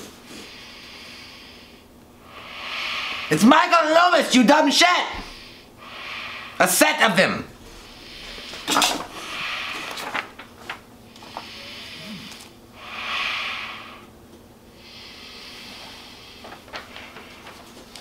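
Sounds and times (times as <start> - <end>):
man breathing heavily: 0.0 - 3.4, 5.2 - 6.6, 7.6 - 10.4, 11.0 - 18.0.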